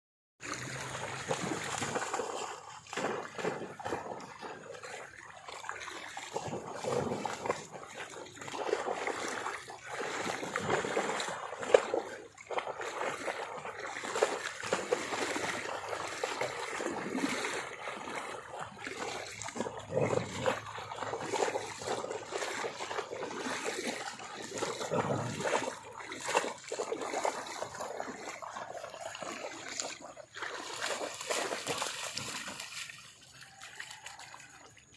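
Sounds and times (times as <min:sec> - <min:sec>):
dog splashing in water: 0:00.4 - 0:34.9.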